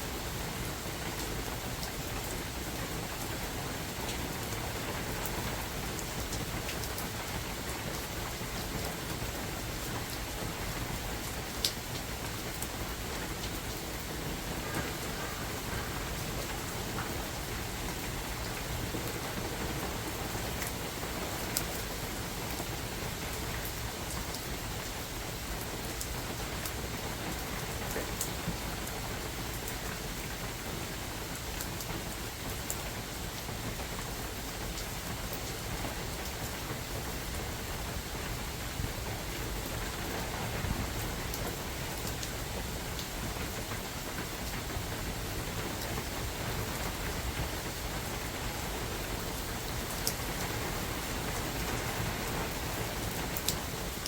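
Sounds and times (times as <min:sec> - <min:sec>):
rain falling in forest: 0:00.0 - 0:54.0.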